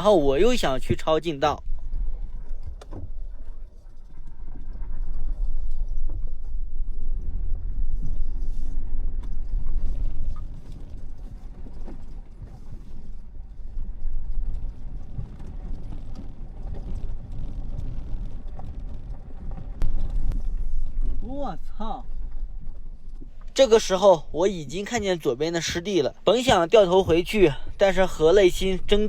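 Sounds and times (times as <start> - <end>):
suspension knocks and creaks: 0.0 - 29.0.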